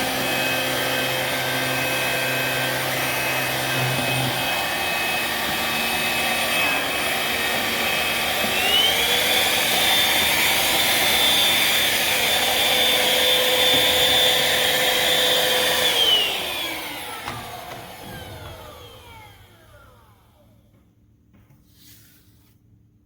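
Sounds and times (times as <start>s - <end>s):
stick vacuum motor whine: 0.0s - 20.8s.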